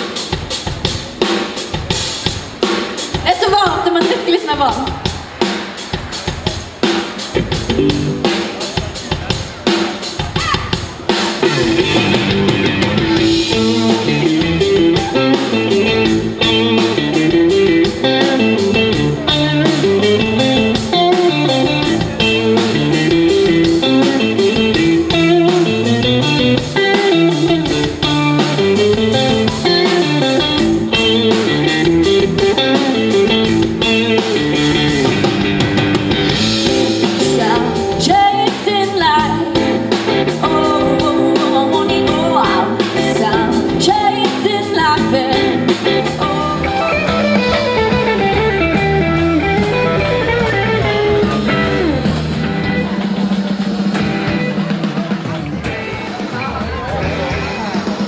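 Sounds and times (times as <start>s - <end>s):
drum kit: 0.0s - 58.0s
electric guitar riff: 0.0s - 58.0s
bass guitar: 7.3s - 58.0s.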